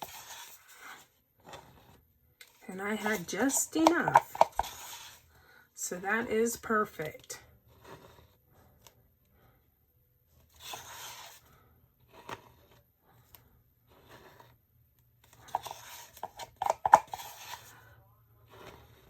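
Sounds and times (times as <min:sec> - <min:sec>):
rustling and scraping handling: 0:00.0 - 0:05.5, 0:06.1 - 0:09.4, 0:10.3 - 0:19.0.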